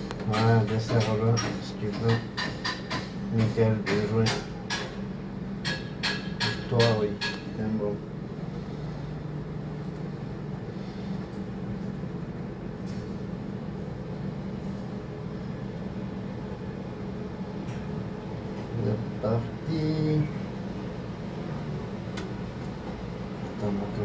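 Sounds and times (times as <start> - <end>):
crane machinery humming: 0.0 - 24.0.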